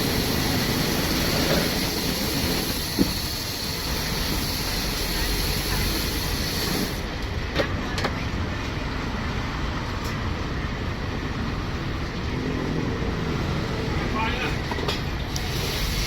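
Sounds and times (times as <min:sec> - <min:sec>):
street background noise: 0:00.0 - 0:16.0.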